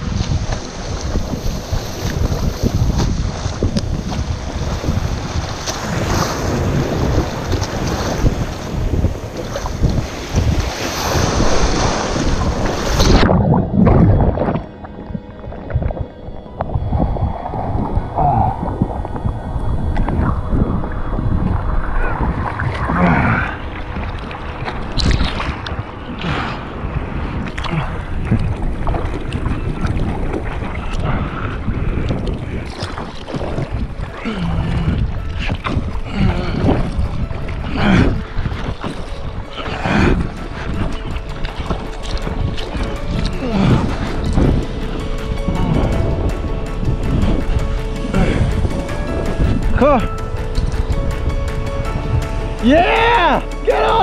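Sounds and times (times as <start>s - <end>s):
muffled underwater rumbling: 0.0s - 54.0s
water sloshing and splashing: 0.0s - 54.0s
whitewater washing: 0.0s - 54.0s
wind buffeting microphone: 0.0s - 54.0s.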